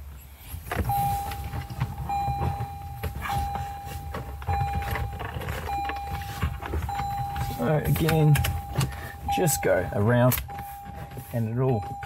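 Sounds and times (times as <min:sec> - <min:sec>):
knocks and clicks of head unit: 0:00.7 - 0:11.1
reverse warning beeper: 0:00.9 - 0:12.0.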